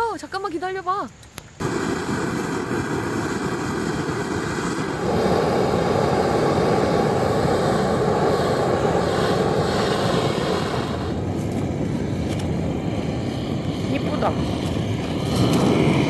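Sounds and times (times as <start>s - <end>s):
gas torch flame hissing: 1.3s - 16.0s.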